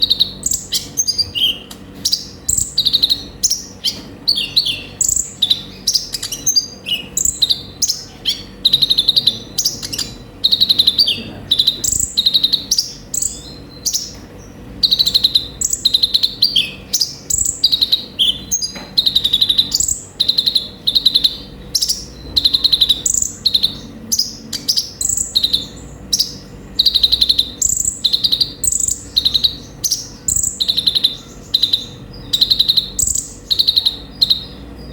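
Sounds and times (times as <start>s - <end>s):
sunbird chirping: 0.0s - 34.9s.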